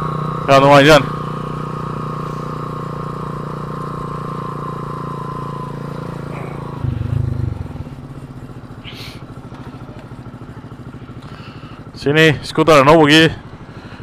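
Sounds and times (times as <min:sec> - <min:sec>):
small motorcycle engine idling: 0:00.0 - 0:14.0.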